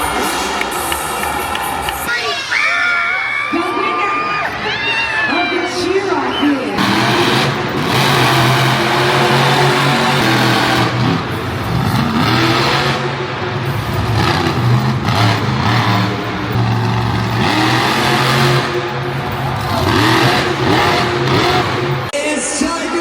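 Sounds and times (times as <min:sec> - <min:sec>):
monster truck engines revving: 0:00.0 - 0:22.2.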